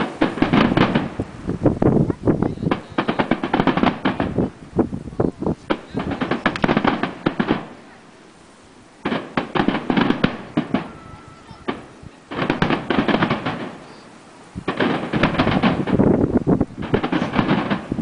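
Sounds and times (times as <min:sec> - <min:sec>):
fireworks bursting: 0:00.0 - 0:18.0.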